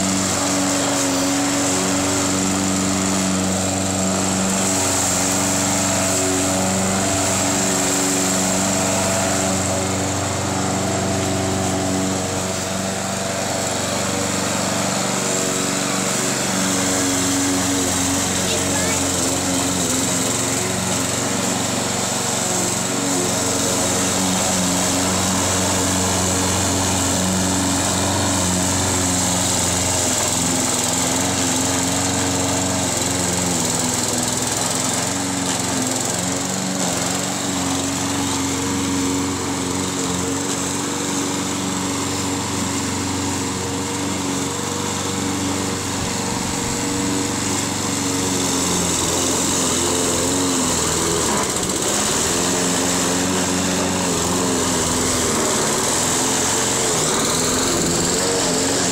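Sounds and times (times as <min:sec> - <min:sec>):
lawn mower cutting grass: 0:00.0 - 0:58.9.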